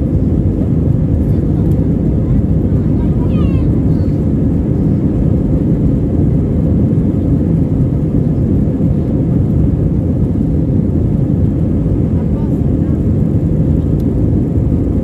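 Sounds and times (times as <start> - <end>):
jet engines and runway rumble: 0.0 - 15.0.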